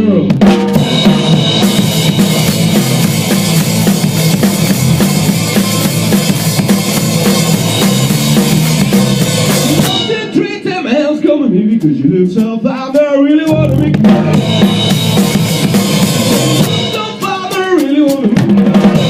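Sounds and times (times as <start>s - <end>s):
instrumental rock music: 0.0s - 10.9s, 12.4s - 19.0s.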